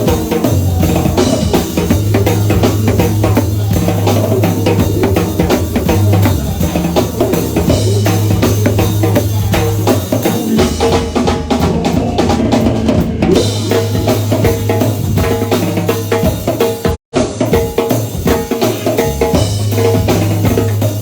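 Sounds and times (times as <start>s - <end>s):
band playing: 0.0s - 21.0s
drum kit beat: 0.0s - 21.0s.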